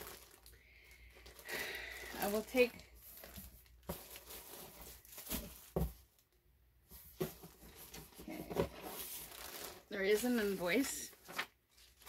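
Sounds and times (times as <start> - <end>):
packaging rustling and crinkling: 0.0 - 6.3, 7.0 - 12.0.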